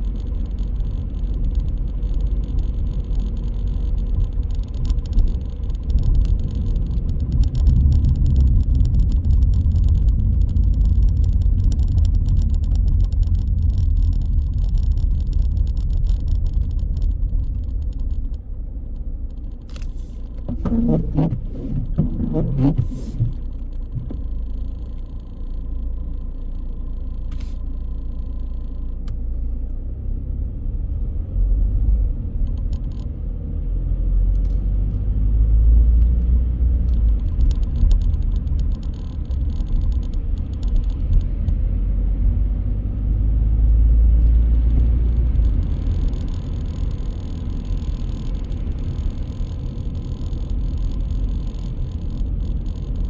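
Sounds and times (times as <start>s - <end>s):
car engine rumble: 0.0s - 53.0s
tyres on road: 0.0s - 53.0s.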